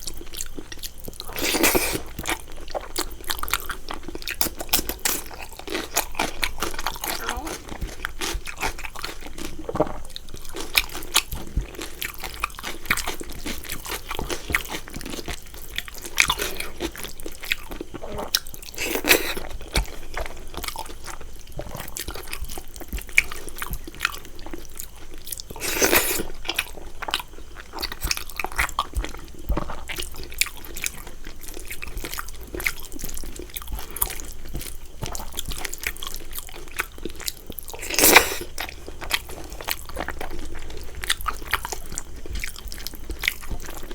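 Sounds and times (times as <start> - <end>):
chewing food: 0.0 - 43.9.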